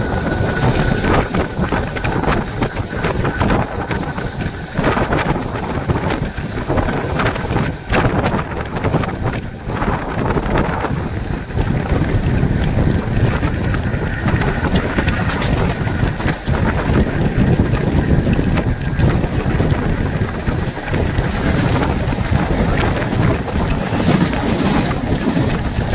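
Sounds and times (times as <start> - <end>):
train wheels on rails: 0.0 - 25.9
wind buffeting microphone: 0.0 - 25.9.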